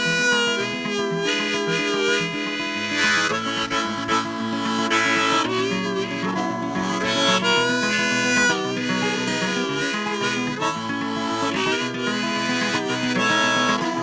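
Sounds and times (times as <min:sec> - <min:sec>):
harmonica solo bending notes: 0:00.0 - 0:14.0
plucked acoustic guitar: 0:00.0 - 0:14.0.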